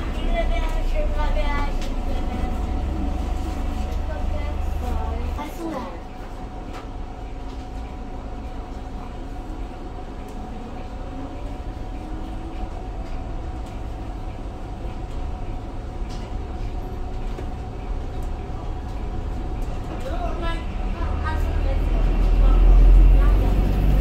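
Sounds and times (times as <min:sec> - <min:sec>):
bus drivetrain rumble: 0:00.0 - 0:24.0.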